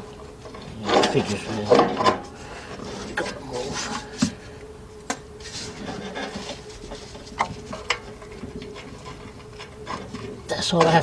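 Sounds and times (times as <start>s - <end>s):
low rubbing and rustling: 0.3s - 10.5s.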